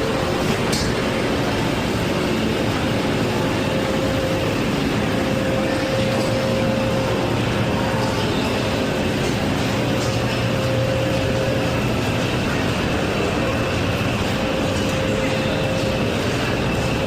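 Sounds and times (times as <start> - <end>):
faint steady hum: 0.0 - 17.0
ventilation noise: 0.0 - 17.0.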